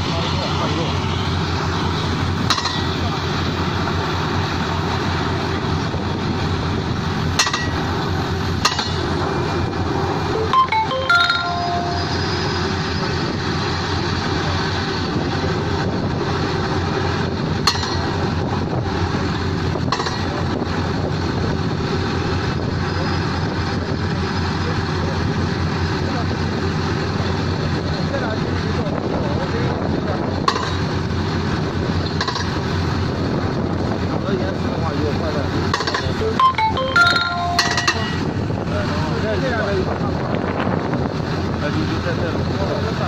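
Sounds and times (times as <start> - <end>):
pneumatic drilling rig running: 0.0 - 43.0.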